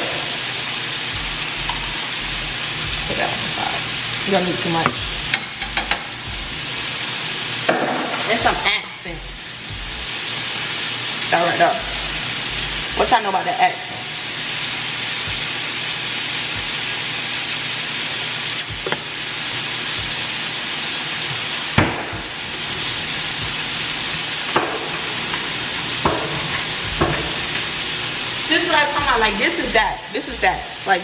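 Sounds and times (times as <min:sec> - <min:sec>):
food sizzling in a pot: 0:00.0 - 0:31.0.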